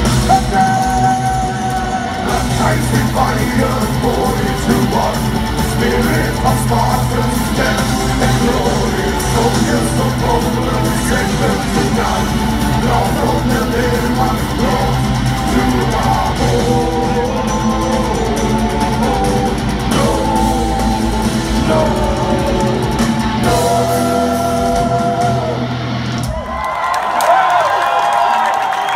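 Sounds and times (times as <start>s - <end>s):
person singing lead vocal: 0.0s - 26.3s
distorted electric guitars: 0.0s - 26.6s
drums: 0.0s - 28.9s.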